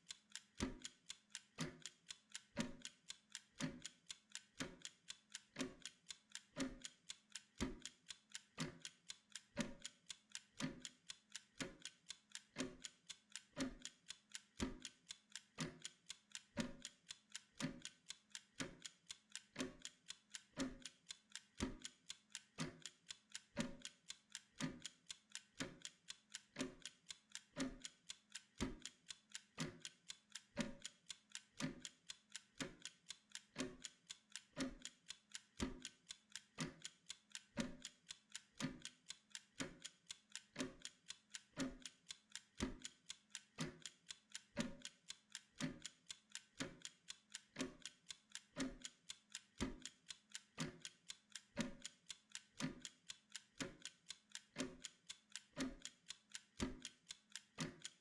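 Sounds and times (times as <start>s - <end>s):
kitchen timer ticking: 0.0s - 58.0s.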